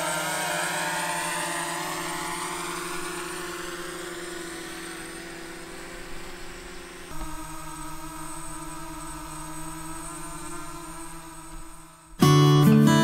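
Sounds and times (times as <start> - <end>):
drone propellers whining: 0.0 - 12.6.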